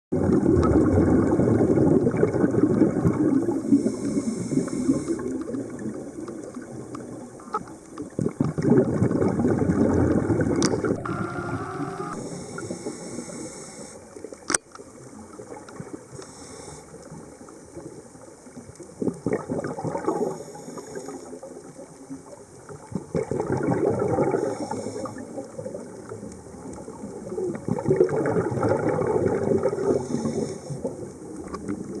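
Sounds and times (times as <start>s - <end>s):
underwater air bubbles gurgling: 0.1s - 32.0s.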